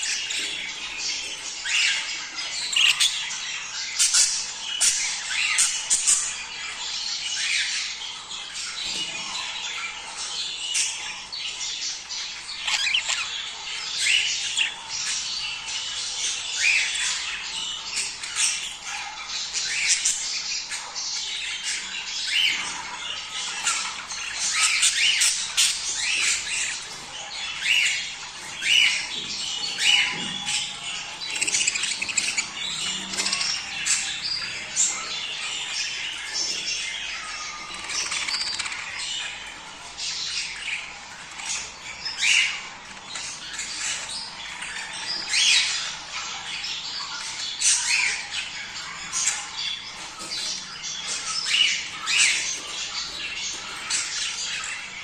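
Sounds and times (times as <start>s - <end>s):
budgerigars chattering: 0.0s - 55.0s.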